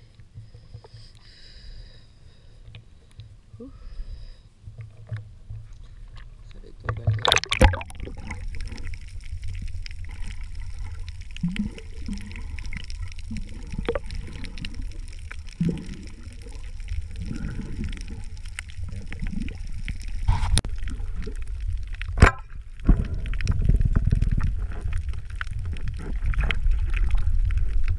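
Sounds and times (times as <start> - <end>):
underwater rumble: 0.0 - 27.9
clicks and bubbling: 4.8 - 27.9.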